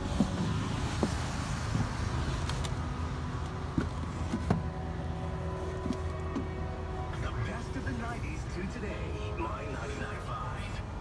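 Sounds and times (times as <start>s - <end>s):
van engine idling hum: 0.0s - 11.0s.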